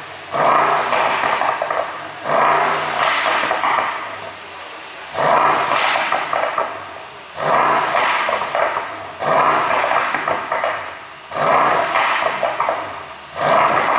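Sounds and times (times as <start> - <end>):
car engine revving: 0.0 - 13.9
exhaust pops and crackles: 0.2 - 4.4, 5.1 - 13.9.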